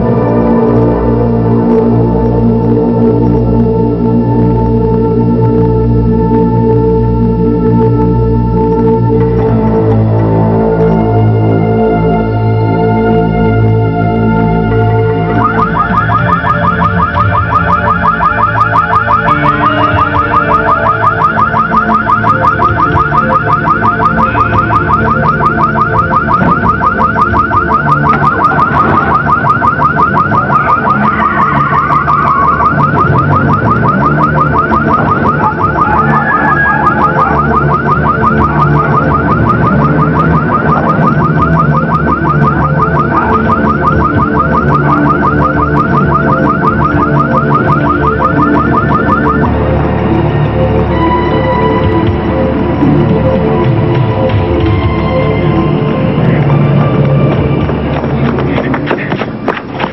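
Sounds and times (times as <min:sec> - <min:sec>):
electronic alarm siren warbling: 0:00.0 - 0:57.7
steady low tones: 0:00.0 - 0:59.9.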